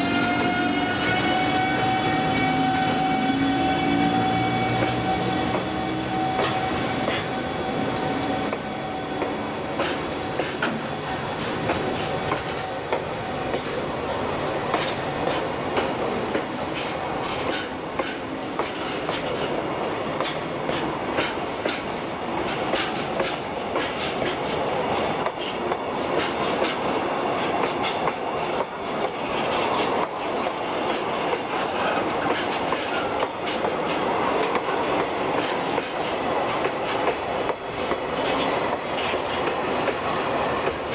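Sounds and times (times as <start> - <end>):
train wheels clicking over rail joints: 4.1 - 40.9.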